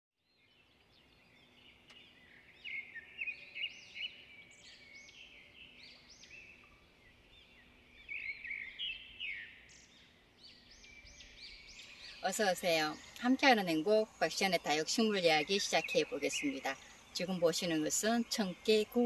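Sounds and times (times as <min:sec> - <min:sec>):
birds chirping: 0:00.2 - 0:19.0
faint background noise: 0:00.3 - 0:19.0.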